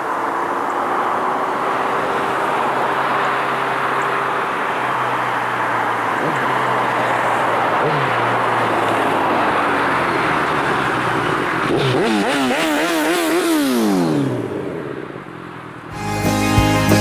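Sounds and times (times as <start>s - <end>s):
motorcycle engine passing: 0.0s - 15.8s
road noise rushing: 0.0s - 17.0s.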